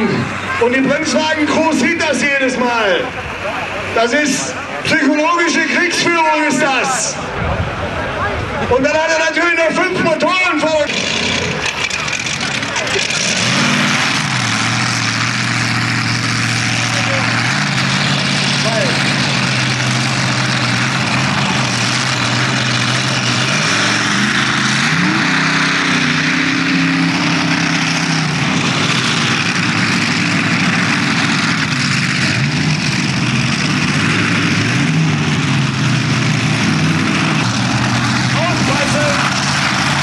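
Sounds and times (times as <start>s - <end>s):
tractor engines idling and revving: 0.0s - 40.0s.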